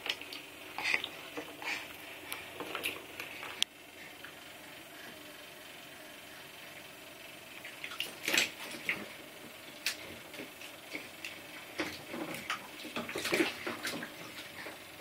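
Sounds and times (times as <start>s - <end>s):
baby splashing bath water: 0.0s - 5.1s, 7.5s - 15.0s.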